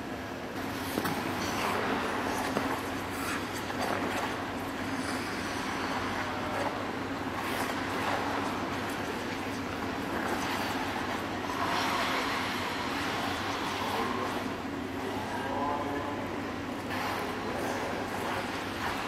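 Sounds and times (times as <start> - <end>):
steady low hum: 0.0 - 19.0
skate blades scraping ice: 0.6 - 6.8, 7.4 - 14.5, 16.9 - 19.0.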